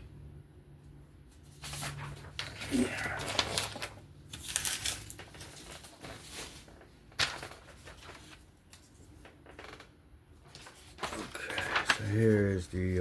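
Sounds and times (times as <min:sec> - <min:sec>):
paper rustling: 0:01.3 - 0:13.0.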